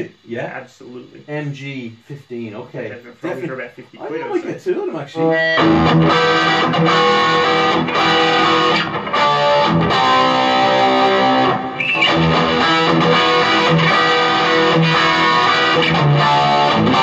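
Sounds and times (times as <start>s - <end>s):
electric guitars playing: 3.0s - 17.0s.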